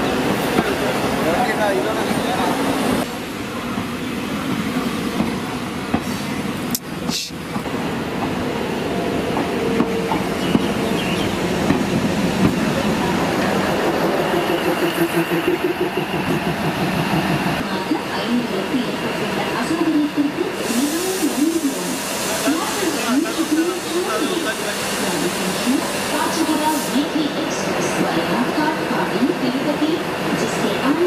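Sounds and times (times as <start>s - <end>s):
train coaches rumbling past: 0.0s - 31.0s.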